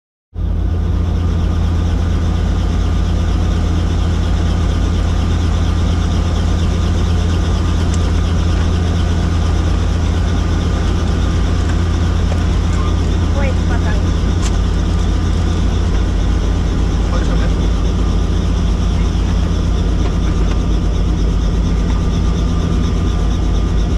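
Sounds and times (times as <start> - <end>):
helicopter engine and rotor drone: 0.4 - 23.9.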